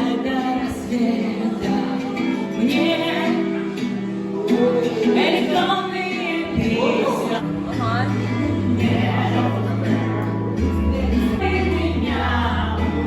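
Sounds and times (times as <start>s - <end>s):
person singing: 0.0s - 13.0s
plucked strings: 0.0s - 13.0s.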